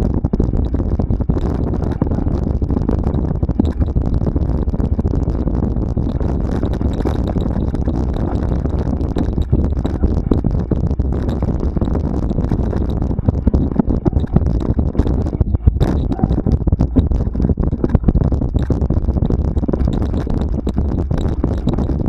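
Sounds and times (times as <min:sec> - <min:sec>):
camera knocks and rattles: 0:00.0 - 0:22.0
wind buffeting microphone: 0:00.0 - 0:22.0.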